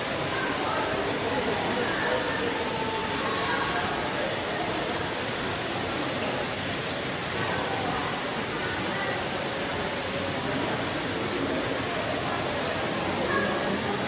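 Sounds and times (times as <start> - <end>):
faint murmuring voices: 0.0 - 14.0.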